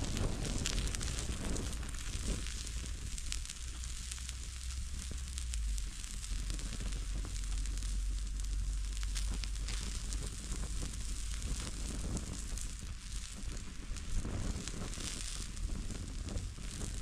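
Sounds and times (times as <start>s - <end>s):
fire hissing and crackling: 0.0s - 17.0s.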